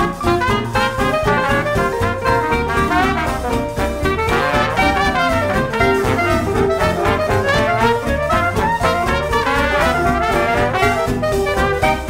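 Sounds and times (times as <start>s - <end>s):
upbeat swing music with brass: 0.0s - 12.0s.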